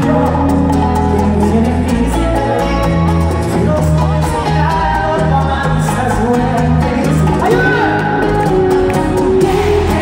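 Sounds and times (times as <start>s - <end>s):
bass: 0.0s - 10.0s
electric guitars: 0.0s - 10.0s.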